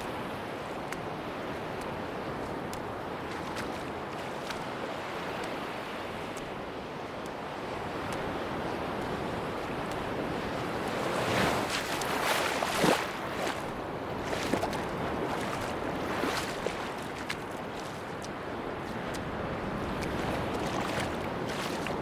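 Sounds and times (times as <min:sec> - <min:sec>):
sea waves on a beach: 0:00.0 - 0:22.0.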